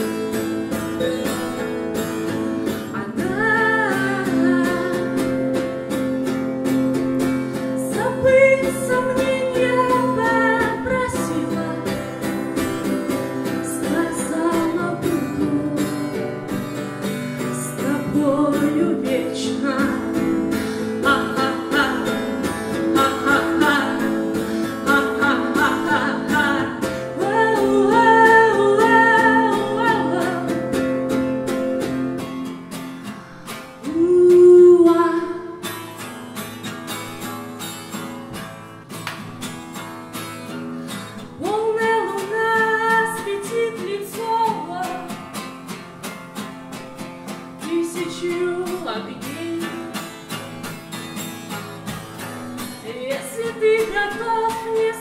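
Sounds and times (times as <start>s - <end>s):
woman singing: 0.0s - 32.1s, 33.8s - 36.1s, 41.2s - 45.5s, 47.5s - 50.8s, 52.6s - 55.0s
strummed acoustic guitar: 0.0s - 55.0s.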